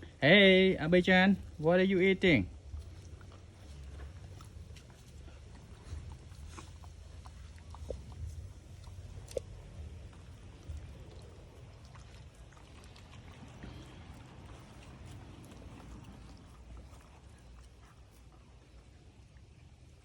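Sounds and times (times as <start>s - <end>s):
dogs chewing: 0.0s - 20.0s.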